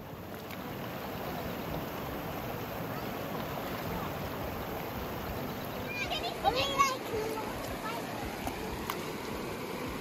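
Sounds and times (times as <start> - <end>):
river running over stones: 0.0 - 10.0.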